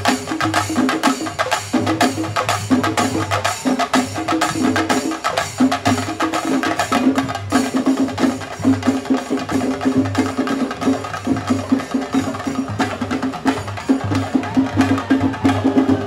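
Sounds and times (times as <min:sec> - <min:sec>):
chenda drums beaten with sticks: 0:00.0 - 0:16.0.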